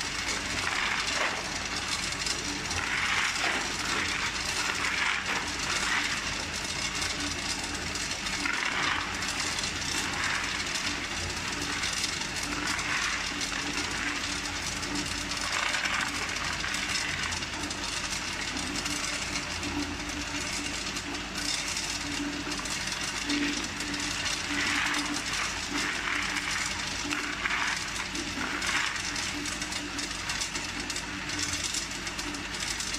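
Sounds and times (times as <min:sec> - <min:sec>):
ice rattling into plastic basin: 0:00.0 - 0:20.8, 0:21.4 - 0:31.8
machine humming: 0:00.0 - 0:32.9.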